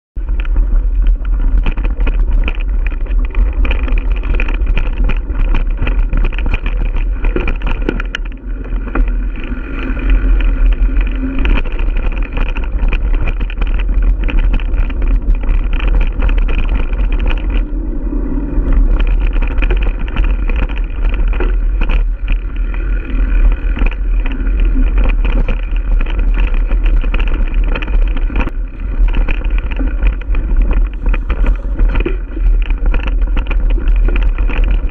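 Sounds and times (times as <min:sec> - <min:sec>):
bike rattling and knocking: 0:00.2 - 0:34.9
tyre and wind rumble: 0:00.2 - 0:34.9.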